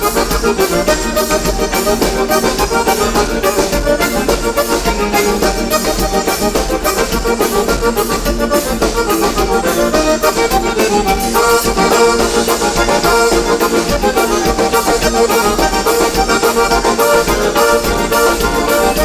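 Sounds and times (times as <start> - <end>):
accordion dance music with band: 0.0 - 19.0.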